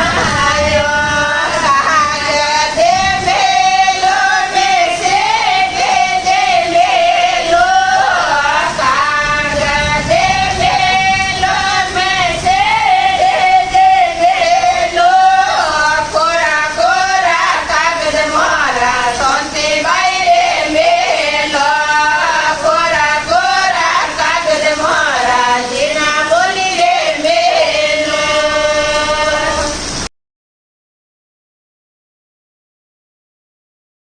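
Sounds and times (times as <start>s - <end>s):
woman singing folk song: 0.0s - 30.0s.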